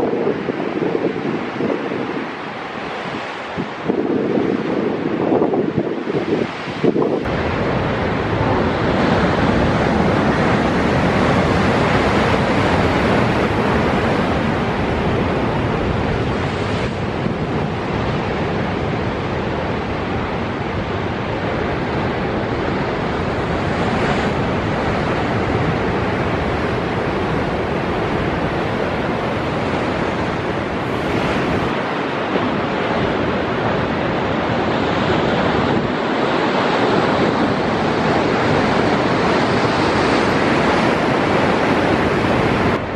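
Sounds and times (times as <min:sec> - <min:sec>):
surf breaking against cliffs: 0:00.0 - 0:42.9
wind buffeting microphone: 0:00.0 - 0:42.9.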